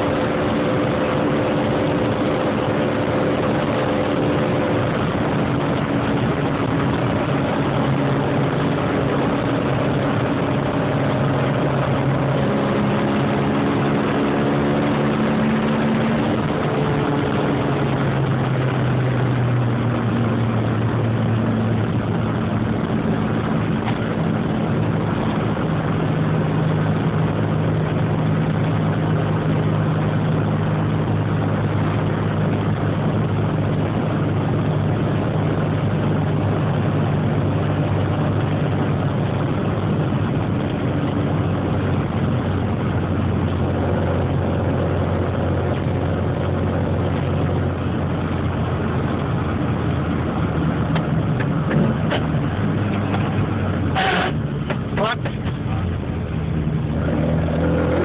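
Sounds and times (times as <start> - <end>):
car engine: 0.0 - 58.0
road noise: 0.0 - 58.0.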